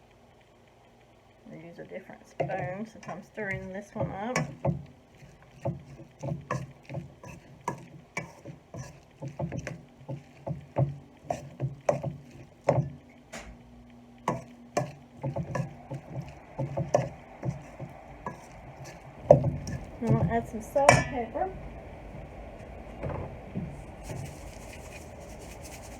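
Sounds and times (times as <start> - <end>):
thick mixture being stirred: 2.2 - 13.3, 14.2 - 23.0, 23.6 - 25.9.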